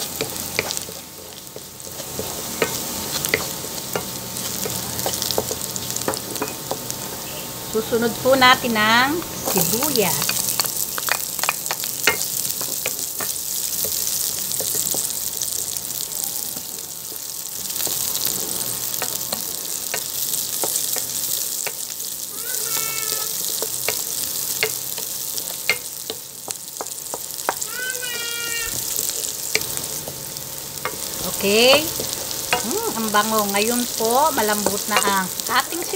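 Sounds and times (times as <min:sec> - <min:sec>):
garlic and onion sizzling in oil: 0:00.0 - 0:35.9.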